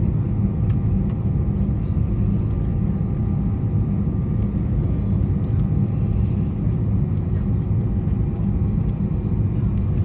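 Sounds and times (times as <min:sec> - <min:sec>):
jet engines idling in cabin: 0:00.0 - 0:10.0.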